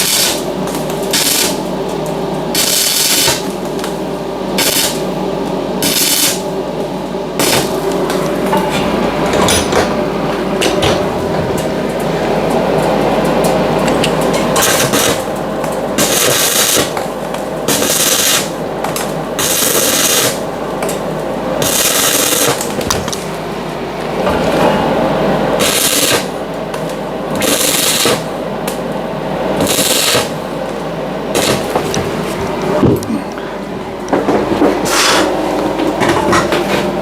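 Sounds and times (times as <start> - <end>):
welder crackling: 0.0 - 24.3, 25.5 - 29.0, 29.6 - 32.8
steady hum: 0.0 - 37.0.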